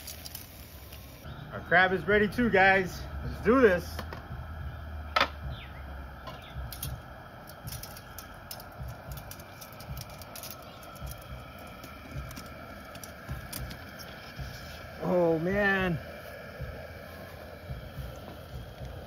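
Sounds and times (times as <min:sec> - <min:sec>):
gas burner hissing: 0:00.0 - 0:19.0.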